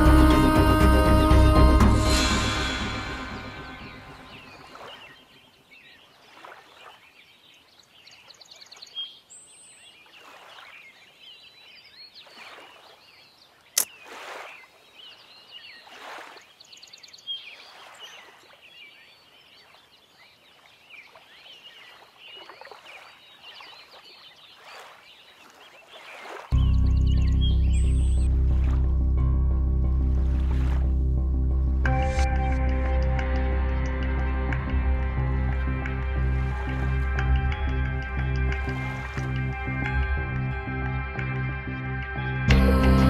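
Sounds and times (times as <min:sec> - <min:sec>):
birds chirping: 0:03.2 - 0:28.8, 0:31.9 - 0:42.3.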